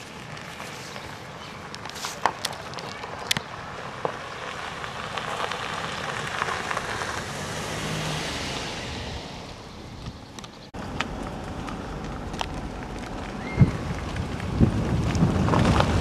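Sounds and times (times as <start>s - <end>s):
passing vehicle road noise: 3.1s - 16.0s.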